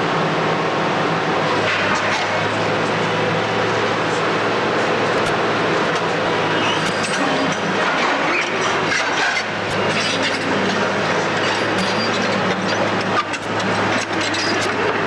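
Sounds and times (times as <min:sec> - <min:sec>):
demolition machinery engine hum: 0:00.0 - 0:15.0.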